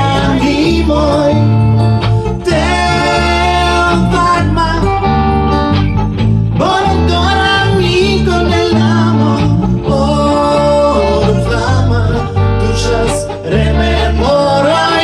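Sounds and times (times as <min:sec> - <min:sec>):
person singing: 0:00.0 - 0:05.3, 0:06.6 - 0:15.0
electric bass guitar: 0:00.0 - 0:15.0
electric keyboard: 0:00.0 - 0:15.0
guitar: 0:00.0 - 0:15.0.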